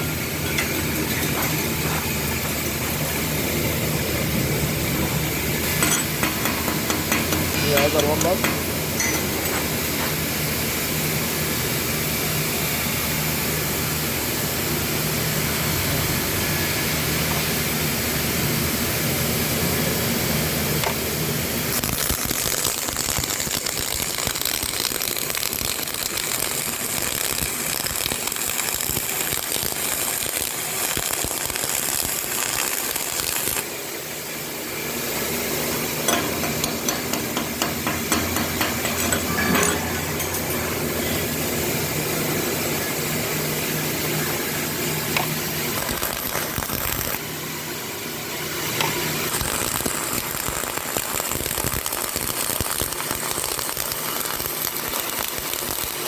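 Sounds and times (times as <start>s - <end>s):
welding arc: 0.0s - 56.0s.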